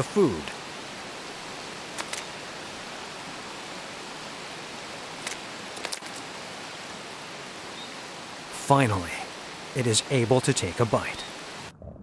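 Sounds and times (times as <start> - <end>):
stream water rushing: 0.0 - 11.7.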